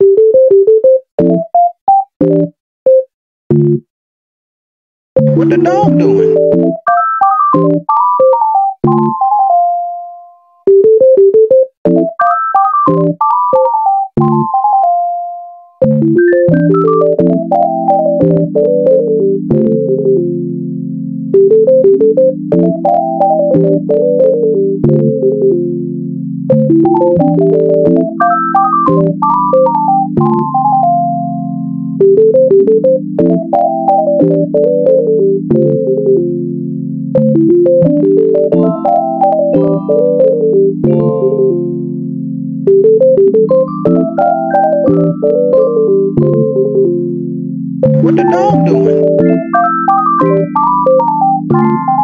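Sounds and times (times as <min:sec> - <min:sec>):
electronic keyboard melody: 0:00.0 - 0:03.9, 0:05.2 - 0:52.0.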